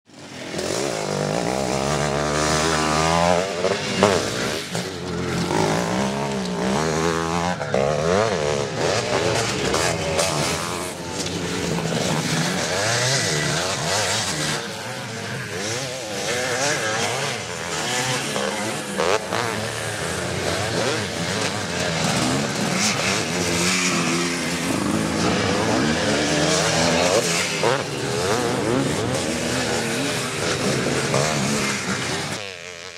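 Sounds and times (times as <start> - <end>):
motocross bike engines revving: 0.1 - 32.9.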